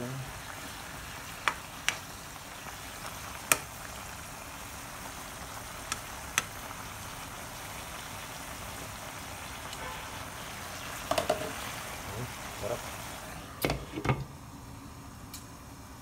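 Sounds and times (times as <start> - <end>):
sauce bubbling and sizzling in a pan: 0.0 - 14.5.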